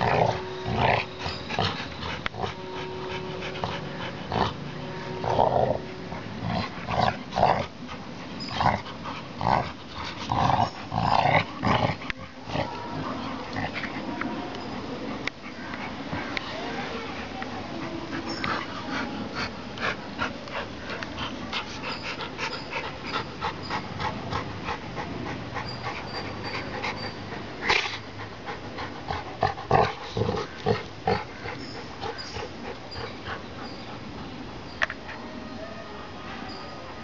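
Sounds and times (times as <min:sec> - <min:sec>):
dogs panting and snuffling: 0:00.0 - 0:37.0.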